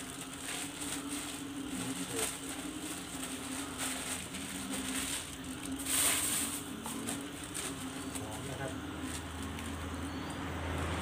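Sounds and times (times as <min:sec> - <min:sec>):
plastic bag rustling: 0:00.0 - 0:11.0
steady low hum: 0:00.0 - 0:11.0.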